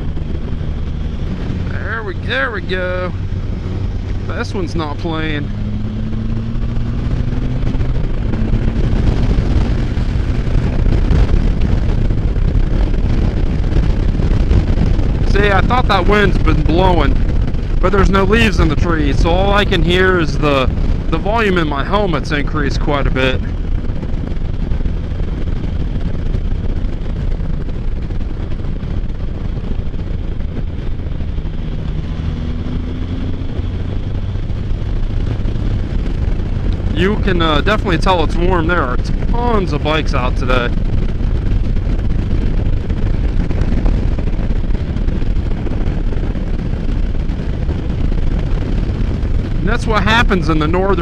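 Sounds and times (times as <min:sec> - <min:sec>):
three-wheeler engine rumble: 0:00.0 - 0:51.0
wind buffeting helmet microphone: 0:00.0 - 0:51.0.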